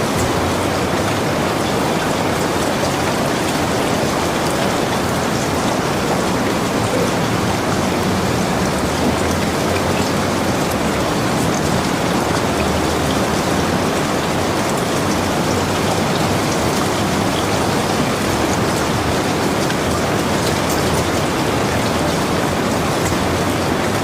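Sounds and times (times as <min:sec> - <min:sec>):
heavy rain hissing: 0:00.0 - 0:24.0
raindrops pattering: 0:00.0 - 0:24.0.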